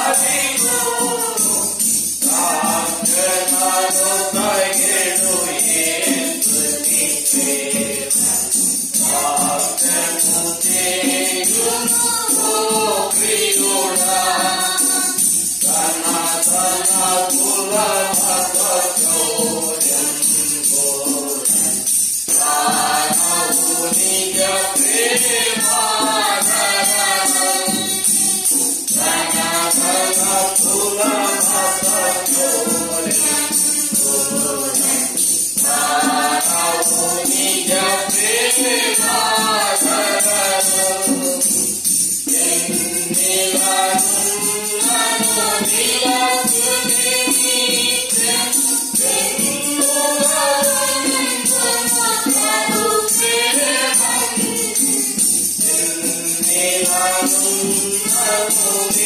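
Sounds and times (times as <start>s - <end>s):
tambourine jingle: 0.0s - 59.0s
voices singing worship song: 0.0s - 59.0s.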